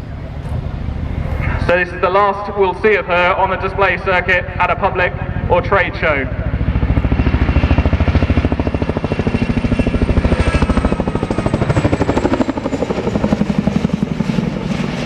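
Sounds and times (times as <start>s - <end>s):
helicopter rotor blades beating: 0.0s - 15.0s
high turbine whine: 0.0s - 15.0s.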